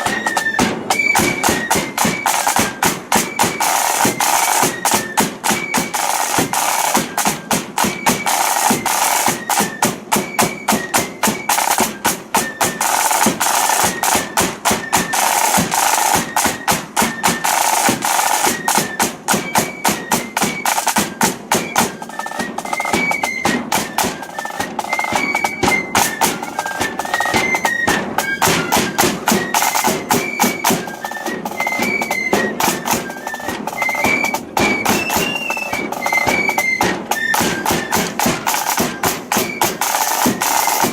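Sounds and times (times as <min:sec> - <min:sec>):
flute melody: 0:00.0 - 0:40.9
rapid snare drumming: 0:00.0 - 0:40.9.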